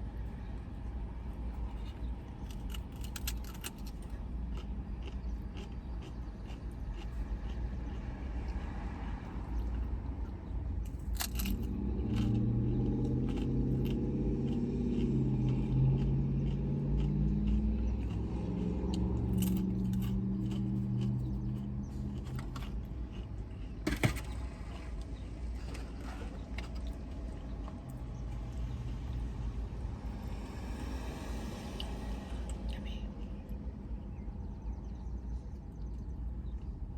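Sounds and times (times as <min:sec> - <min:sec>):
low engine hum: 0:00.0 - 0:36.9.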